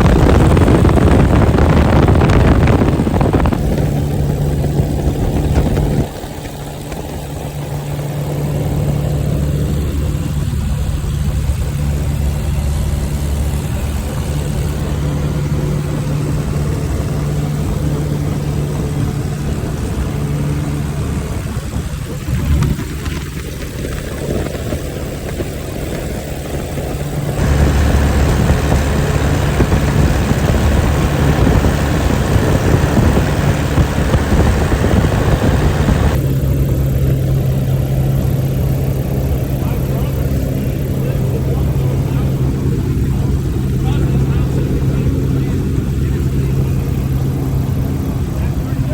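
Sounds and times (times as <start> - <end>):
light airplane engine droning: 0.0 - 48.9.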